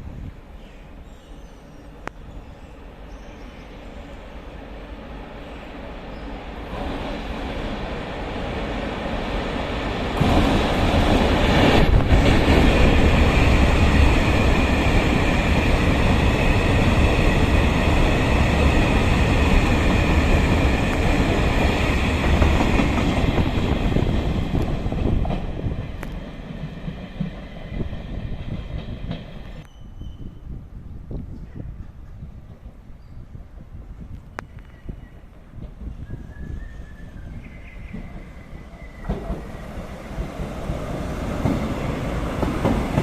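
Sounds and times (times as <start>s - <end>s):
train wheels rumbling on rails: 3.8s - 43.0s.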